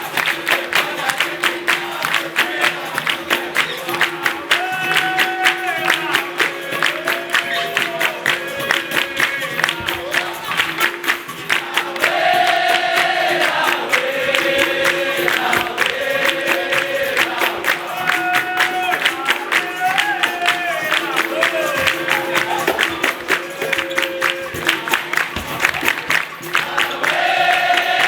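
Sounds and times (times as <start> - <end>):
berimbau tone: 0.0 - 28.0
group singing in chorus: 0.0 - 28.0
hand clapping: 0.0 - 28.0
percussion: 0.0 - 28.0.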